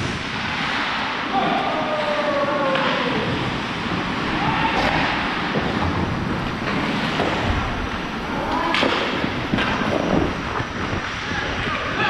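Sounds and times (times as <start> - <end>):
skates on ice: 0.0 - 12.0
wind on microphone: 1.9 - 12.0.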